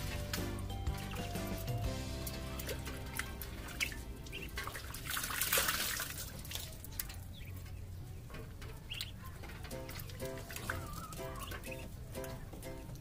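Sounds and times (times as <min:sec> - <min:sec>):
ducklings splashing in water: 0:00.0 - 0:13.0.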